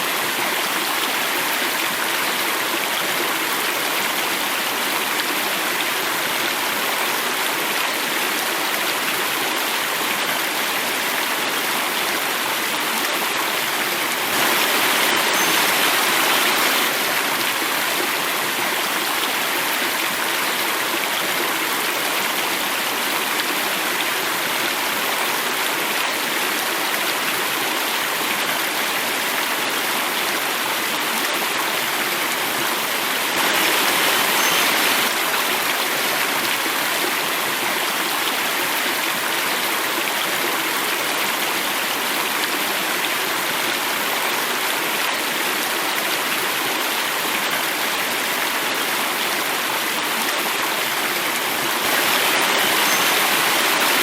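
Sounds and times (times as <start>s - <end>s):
stream flowing in small cascade: 0.0s - 54.0s.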